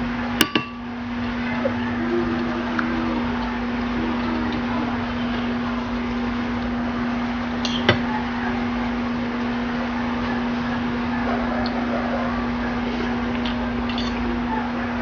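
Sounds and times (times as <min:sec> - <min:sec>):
constant hiss: 0:00.0 - 0:15.0
low machine hum: 0:00.0 - 0:15.0.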